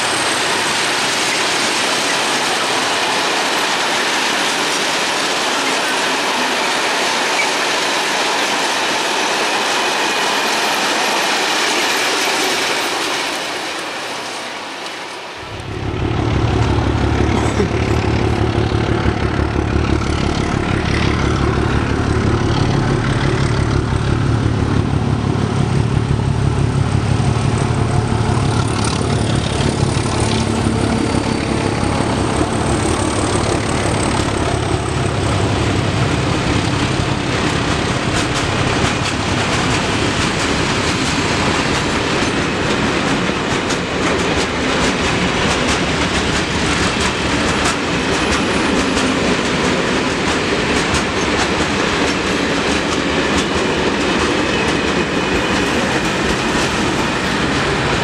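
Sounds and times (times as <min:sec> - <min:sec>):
diesel locomotive drone: 0:00.0 - 0:58.0
train wheels on rails: 0:00.0 - 0:58.0.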